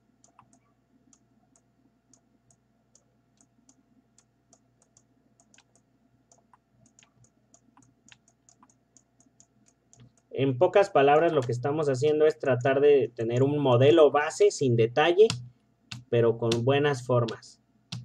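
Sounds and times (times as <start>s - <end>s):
computer controls clicking: 0.1s - 10.4s, 11.0s - 13.8s, 15.2s - 18.0s.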